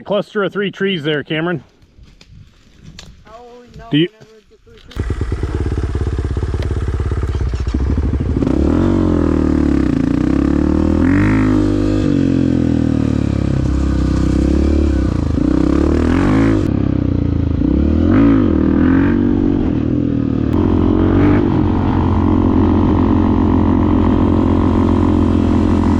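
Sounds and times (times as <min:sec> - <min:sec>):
dirt bike engine revving: 0:04.9 - 0:25.9.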